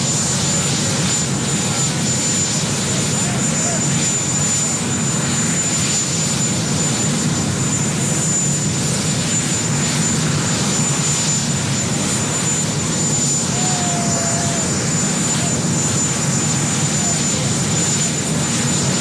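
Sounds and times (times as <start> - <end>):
helicopter turbine engines running: 0.0 - 19.0.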